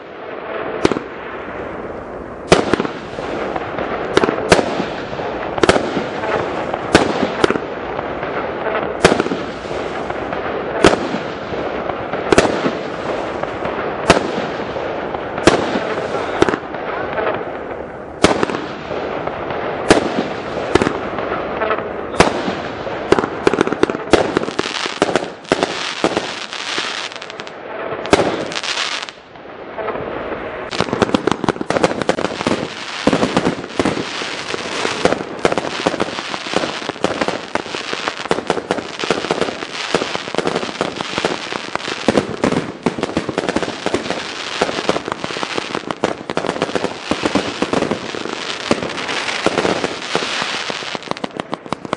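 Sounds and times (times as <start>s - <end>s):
fireworks bangs and pops: 0.0s - 1.8s, 2.4s - 51.9s.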